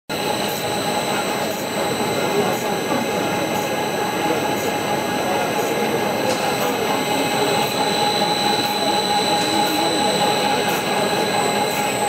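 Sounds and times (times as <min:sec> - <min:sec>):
high-pitched whine: 0:00.1 - 0:12.0
steady machine drone: 0:00.1 - 0:12.0
faint voices chattering: 0:00.4 - 0:12.0.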